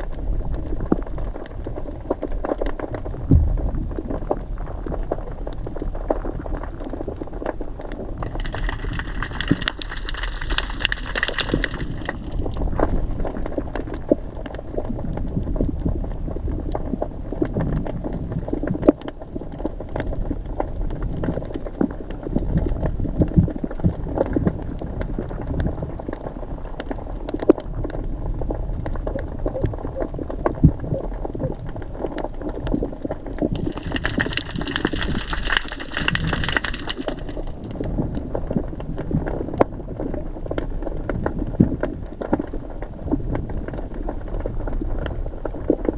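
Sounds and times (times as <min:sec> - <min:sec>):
crackles and clicks: 0:00.0 - 0:45.9
muffled underwater rumble: 0:00.0 - 0:45.9.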